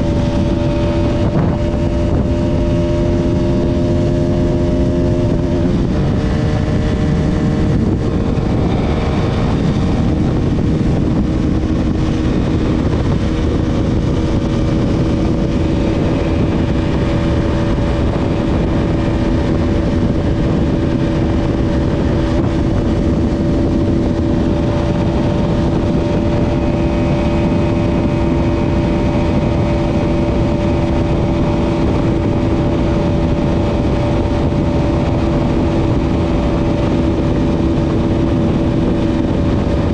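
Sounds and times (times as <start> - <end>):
motorcycle engine at high revs: 0.0 - 39.9
wind rushing on microphone: 0.0 - 39.9.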